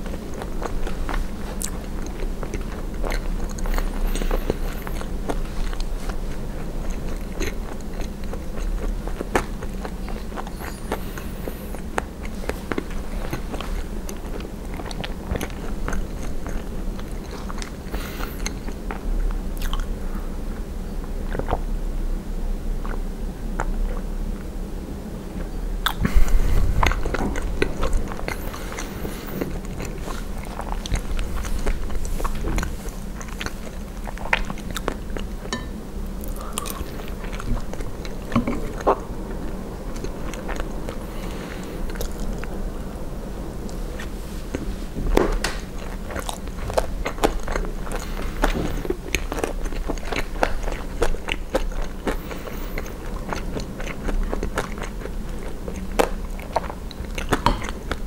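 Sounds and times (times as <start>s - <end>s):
chewing and crunching food: 0.0s - 21.8s, 22.7s - 24.6s, 25.2s - 58.0s.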